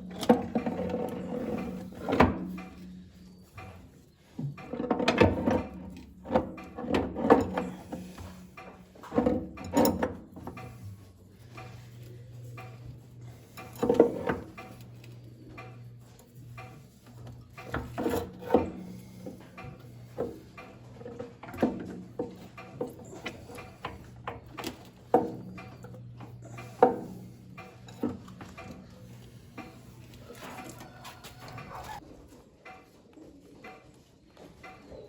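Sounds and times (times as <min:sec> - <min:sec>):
tools and parts clunking: 0:00.0 - 0:32.0.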